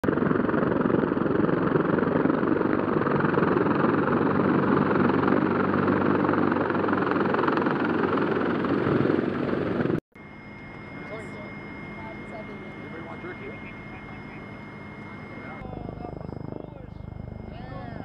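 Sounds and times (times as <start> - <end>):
helicopter hovering: 0.0 - 18.0.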